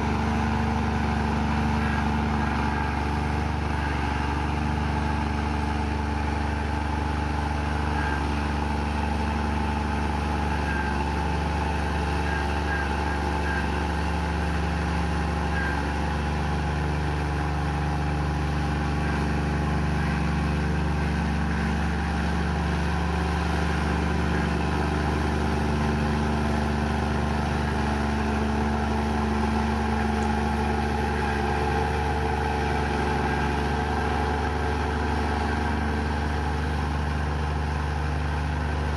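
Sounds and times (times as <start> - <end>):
bulldozer diesel engine humming: 0.0 - 38.9.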